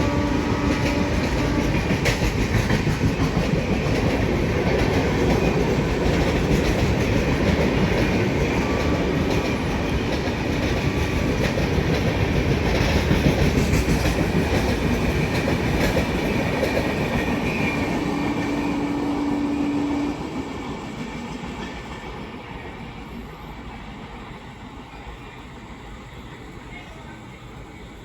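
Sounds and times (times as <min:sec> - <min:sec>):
train wheels clattering: 0:00.0 - 0:23.6.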